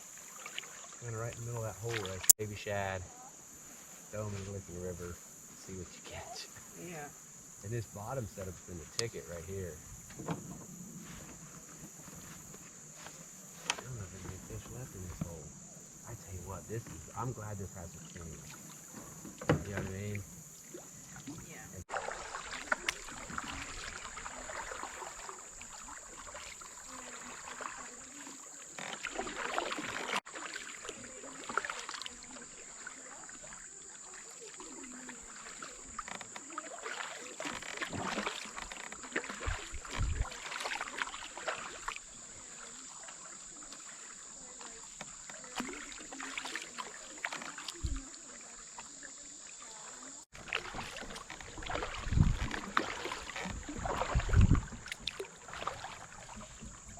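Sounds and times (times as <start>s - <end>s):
water splashing around a kayak: 0.0s - 56.9s.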